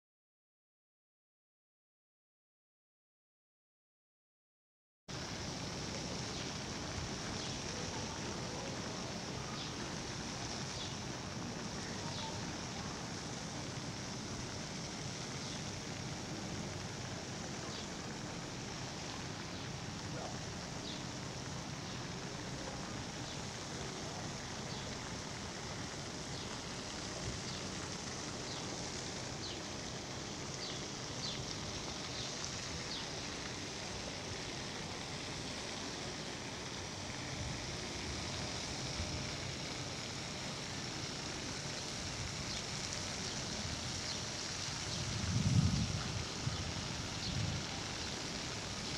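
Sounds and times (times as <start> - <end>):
constant high hiss: 5.1 - 48.9.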